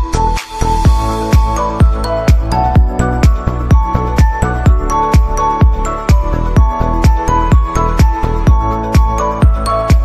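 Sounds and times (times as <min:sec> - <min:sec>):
kick drum beat: 0:00.9 - 0:10.0.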